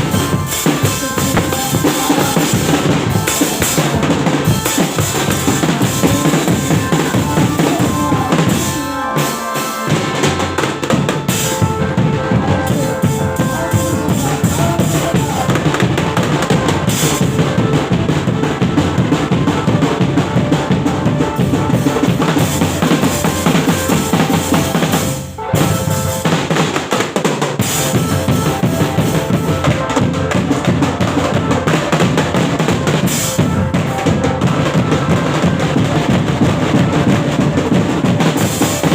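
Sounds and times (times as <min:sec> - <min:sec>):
loud live drum-driven music: 0:00.0 - 0:38.9.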